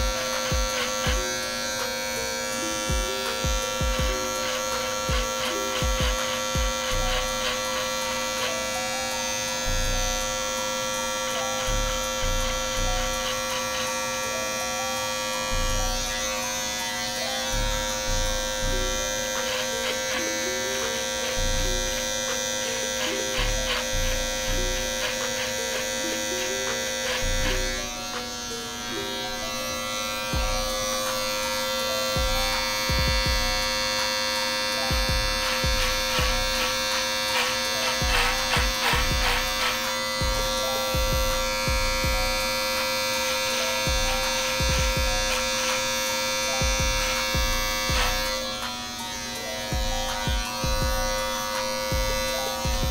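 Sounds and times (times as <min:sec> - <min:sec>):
background music with a beat: 0:00.0 - 0:52.9
electric hair clippers buzzing: 0:00.0 - 0:52.9.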